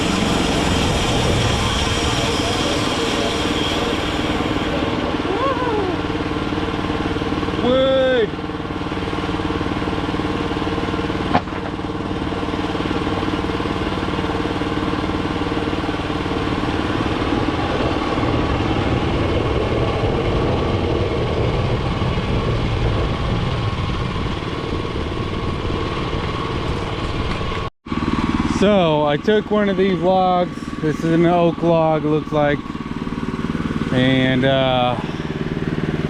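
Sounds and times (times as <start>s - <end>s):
bandsaw mill engine running: 0.0s - 36.0s
deep rumble: 0.0s - 36.0s.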